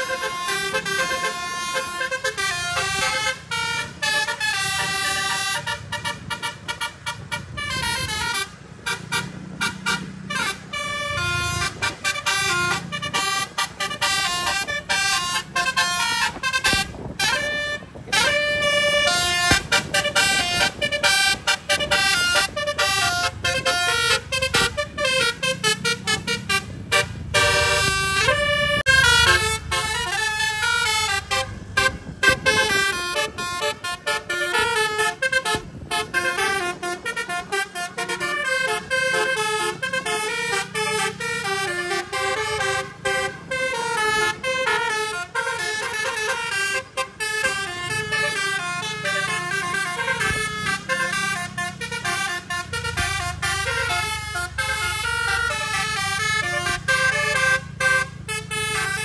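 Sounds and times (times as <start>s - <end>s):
bus engine rumbling: 0.0s - 59.0s
bus horn playing melodic tunes: 0.0s - 59.0s.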